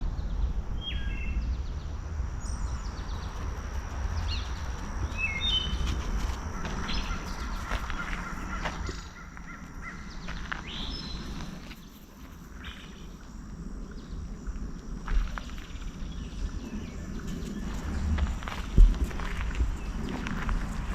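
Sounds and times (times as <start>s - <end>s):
low rumble: 0.0s - 11.8s, 12.6s - 20.9s
songbirds chirping: 0.0s - 20.9s.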